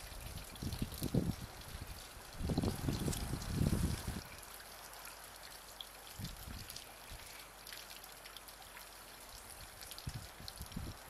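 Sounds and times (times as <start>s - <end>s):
faint steady outdoor hiss: 0.0s - 11.0s.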